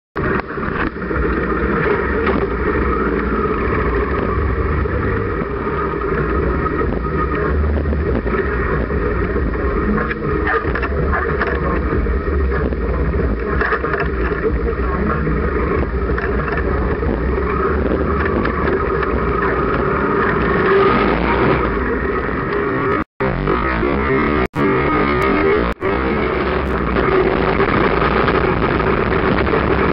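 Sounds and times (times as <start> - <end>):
motorcycle engines running: 0.2 - 29.9.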